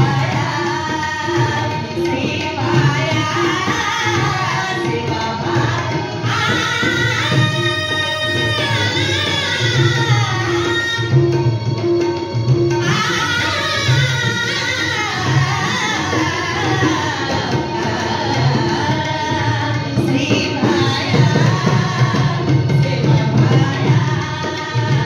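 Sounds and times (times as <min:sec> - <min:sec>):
woman singing into a microphone: 0:00.0 - 0:11.4, 0:12.8 - 0:25.0
dholak drum: 0:00.0 - 0:25.0
tabla: 0:00.0 - 0:25.0.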